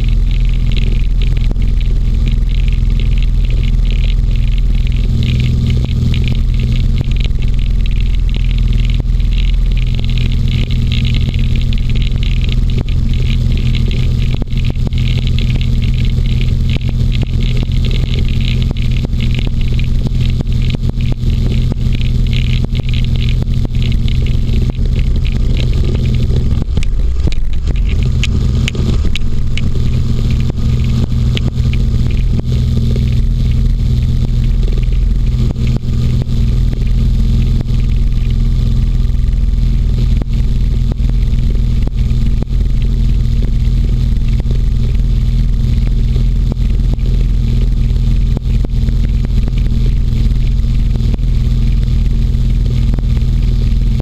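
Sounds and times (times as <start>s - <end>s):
engine and fan running: 0.0s - 54.0s.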